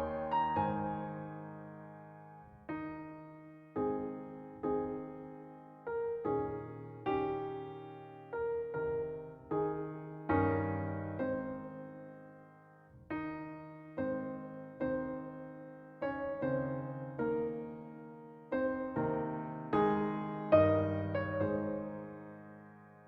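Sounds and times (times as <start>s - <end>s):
slow piano chords: 0.0s - 23.0s.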